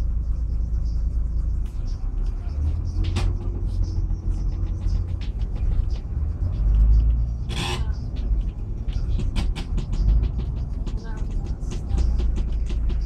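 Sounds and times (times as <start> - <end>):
bus engine and road rumble: 0.0 - 13.0
bodywork rattling: 2.4 - 13.0.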